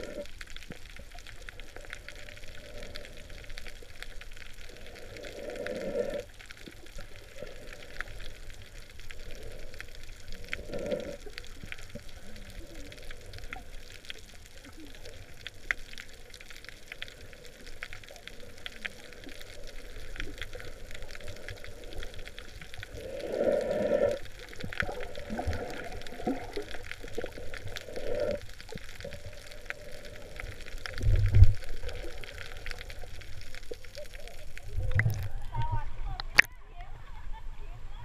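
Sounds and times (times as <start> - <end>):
faint scattered clicks: 0.0 - 37.0
underwater sloshing and gurgling: 0.0 - 37.8.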